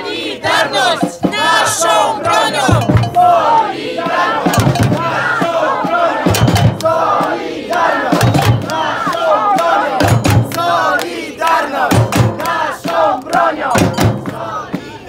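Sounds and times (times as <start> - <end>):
crowd chanting in unison: 0.0 - 15.0
samba drum hits: 0.6 - 9.1, 9.9 - 10.9, 11.8 - 15.0.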